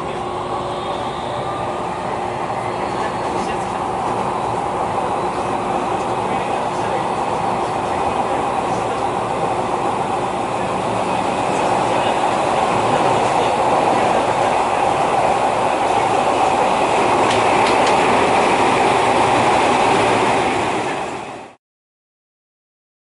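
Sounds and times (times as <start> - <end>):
train wheels rumbling on rail: 0.0 - 21.6.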